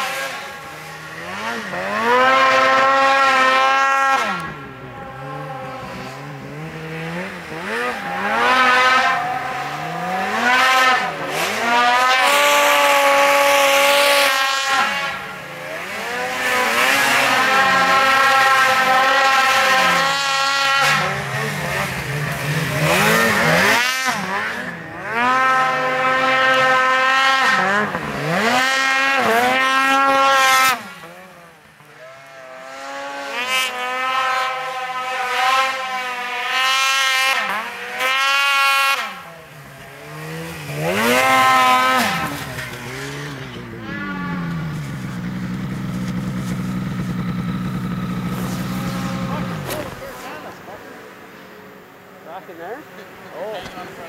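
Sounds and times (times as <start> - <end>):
snowmobile engines revving: 0.0 - 54.0.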